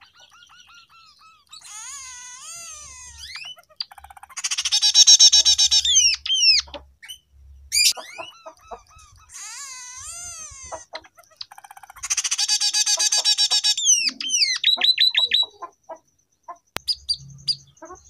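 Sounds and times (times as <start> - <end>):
bird singing trills and whistles: 0.0 - 18.0.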